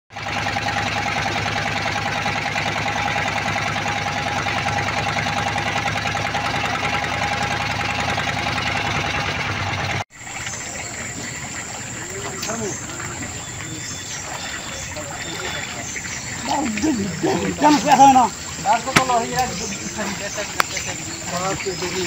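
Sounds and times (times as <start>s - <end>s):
boat engine knocking: 0.1s - 22.0s.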